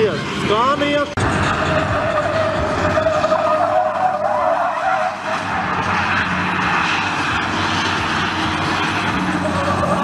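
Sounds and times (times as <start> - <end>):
truck engine running: 0.0 - 10.0
truck tyres squealing: 0.0 - 10.0.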